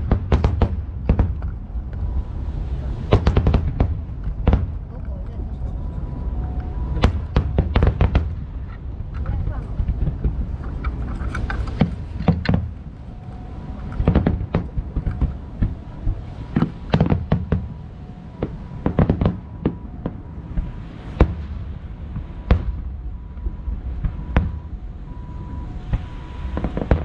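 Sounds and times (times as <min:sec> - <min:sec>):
fireworks bangs and crackling: 0:00.0 - 0:27.0
low rumble: 0:00.0 - 0:27.0.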